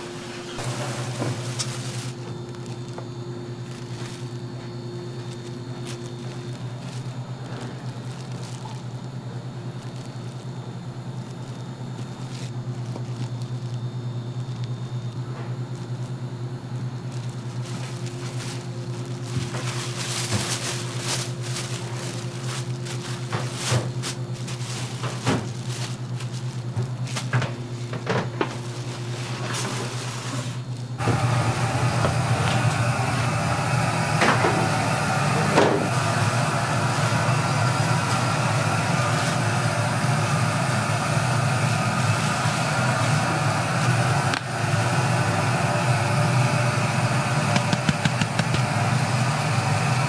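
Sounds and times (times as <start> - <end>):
plastic sheet rustling: 0.0 - 14.8, 15.6 - 46.0
steady low hum: 0.0 - 50.0.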